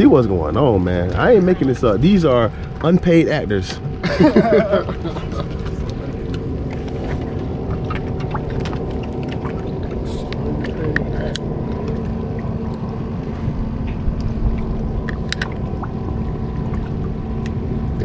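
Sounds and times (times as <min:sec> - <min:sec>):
boat engine rumble and hum: 0:00.0 - 0:18.0
water splashing against boat: 0:00.0 - 0:18.0.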